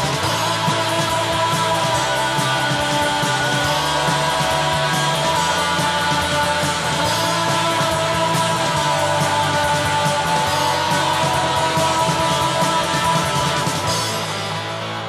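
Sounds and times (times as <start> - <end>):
cymbals: 0.0 - 14.7
bass guitar: 0.0 - 15.0
drums: 0.0 - 15.0
electric guitars sustained chords: 0.0 - 15.0.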